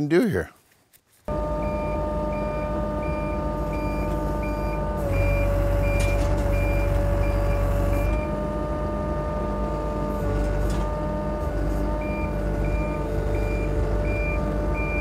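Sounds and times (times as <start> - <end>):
backup alarm beeping: 1.3 - 10.1, 10.7 - 15.0
loader engine running: 1.3 - 15.0.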